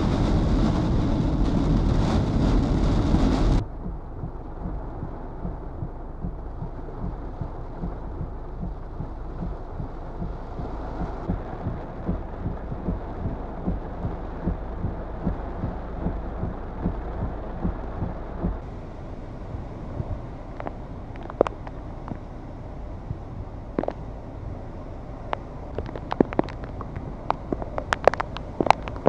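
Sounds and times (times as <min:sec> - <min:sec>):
gusts buffeting microphone: 0:00.0 - 0:24.5, 0:25.1 - 0:29.0
strong wind and heavy rain: 0:00.0 - 0:29.0.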